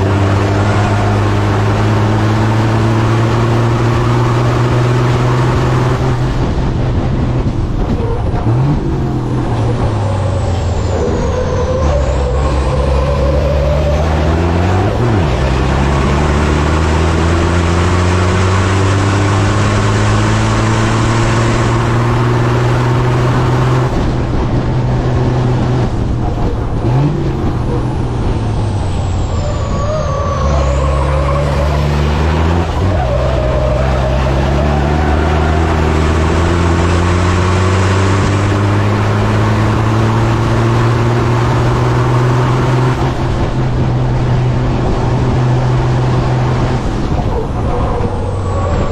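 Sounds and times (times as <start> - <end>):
diesel truck engine accelerating: 0.0 - 48.9.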